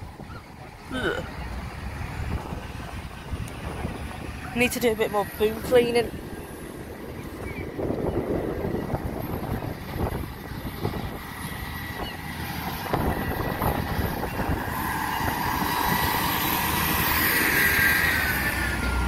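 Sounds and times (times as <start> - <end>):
diesel train engine and wheel rumble: 0.0 - 19.0.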